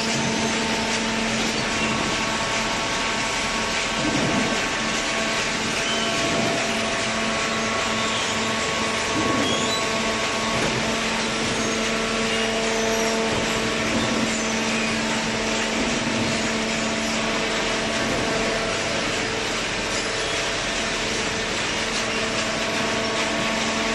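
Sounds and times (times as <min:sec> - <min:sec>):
electric motor and pump humming: 0:00.0 - 0:23.9.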